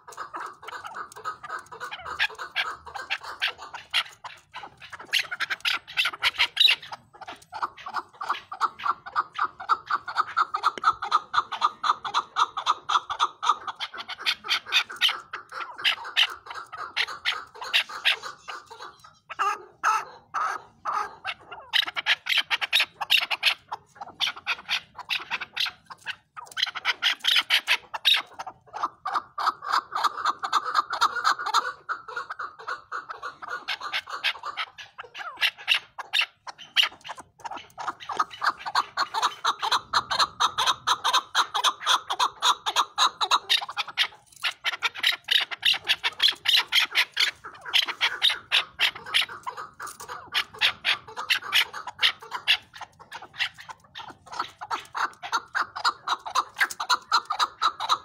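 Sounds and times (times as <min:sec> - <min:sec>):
partridge calling rapid notes: 0:00.0 - 0:58.0.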